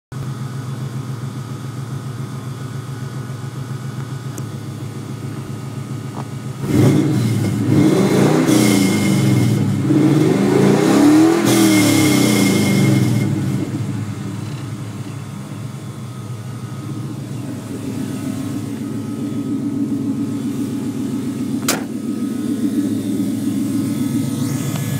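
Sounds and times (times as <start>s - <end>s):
car engine idling and revving: 0.1s - 24.9s.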